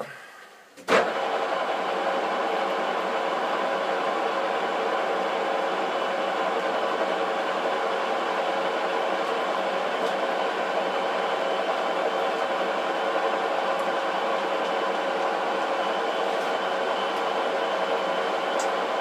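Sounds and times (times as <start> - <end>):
metal lathe humming and whining: 1.2 - 19.0.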